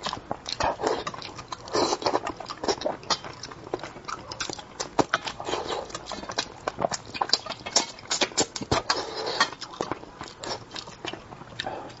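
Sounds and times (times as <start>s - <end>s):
wet chewing and lip smacking: 0.0s - 12.0s.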